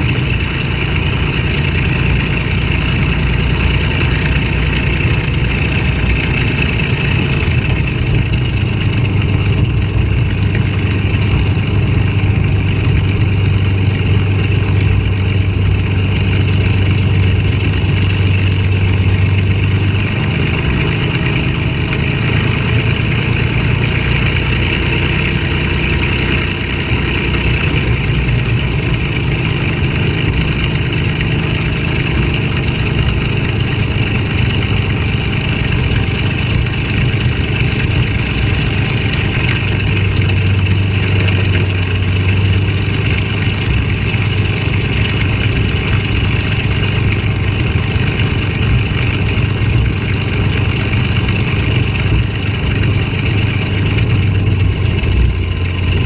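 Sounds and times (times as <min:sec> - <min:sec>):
aircraft piston engine droning: 0:00.0 - 0:56.0.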